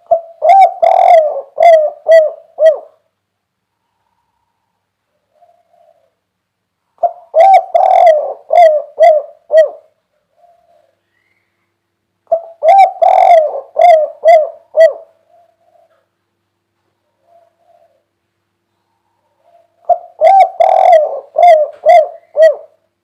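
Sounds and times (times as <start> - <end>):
dove cooing: 0.0 - 3.1, 3.8 - 6.3, 6.9 - 11.2, 12.3 - 16.2, 17.0 - 18.2, 18.8 - 23.0.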